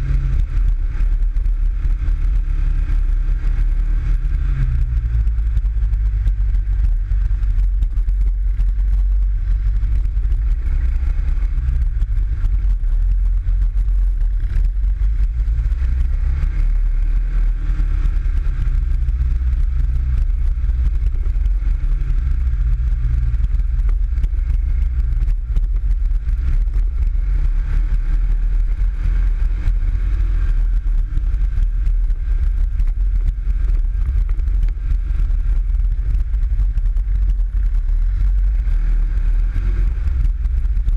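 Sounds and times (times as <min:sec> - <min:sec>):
buggy engine running: 0:00.0 - 0:40.9.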